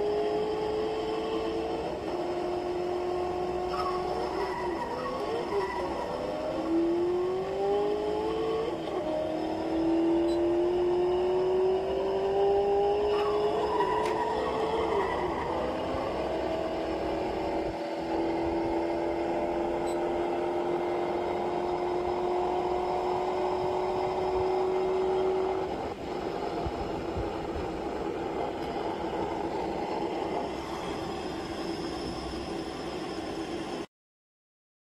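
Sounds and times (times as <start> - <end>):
car engine accelerating: 0.0 - 33.0
rough engine hum: 0.0 - 33.8.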